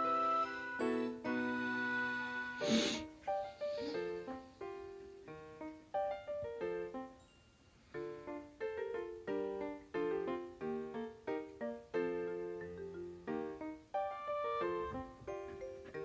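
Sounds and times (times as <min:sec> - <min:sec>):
piano-like keyboard melody: 0:00.0 - 0:16.0.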